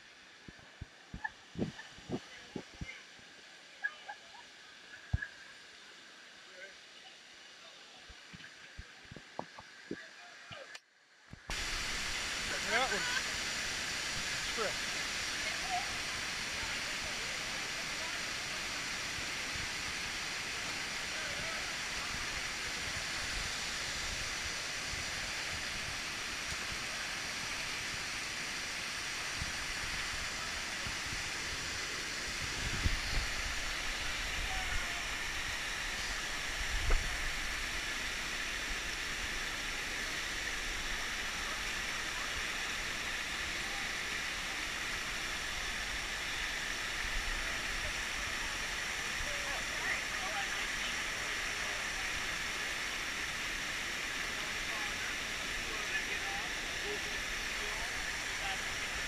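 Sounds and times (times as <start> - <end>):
waterfall rushing over rocks: 11.5 - 59.0.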